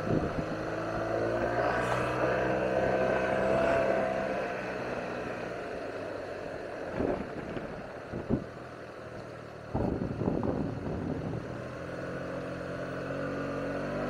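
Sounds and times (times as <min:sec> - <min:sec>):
road and wind noise: 0:00.0 - 0:14.0
scooter engine running: 0:00.0 - 0:14.0.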